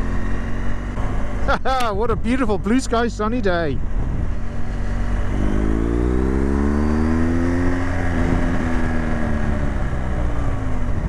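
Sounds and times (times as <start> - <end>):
motorcycle engine accelerating: 0.0 - 2.4, 3.8 - 11.0.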